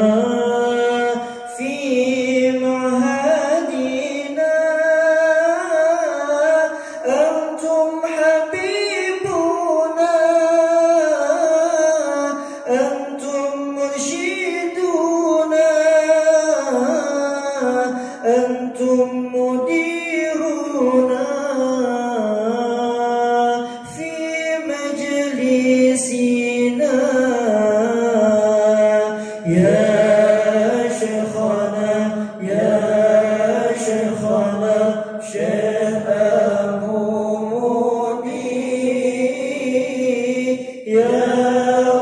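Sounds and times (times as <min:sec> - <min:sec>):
person chanting devotional poem: 0:00.0 - 0:42.0.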